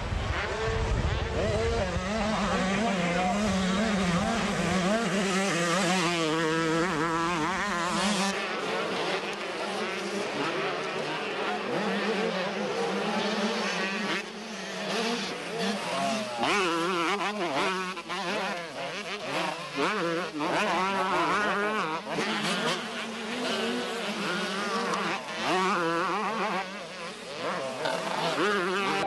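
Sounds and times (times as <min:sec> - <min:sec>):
drone of other engines: 0:00.0 - 0:29.0
motorcycle engines revving hard: 0:00.0 - 0:29.0.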